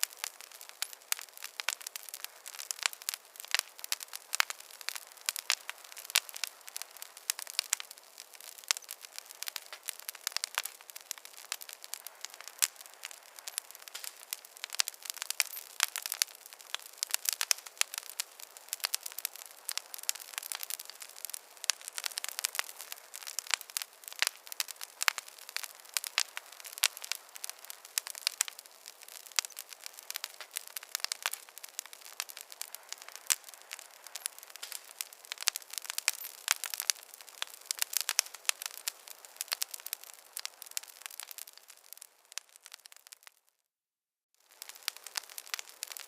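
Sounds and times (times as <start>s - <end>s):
fireplace fire crackling: 0.0s - 43.6s, 44.4s - 46.0s.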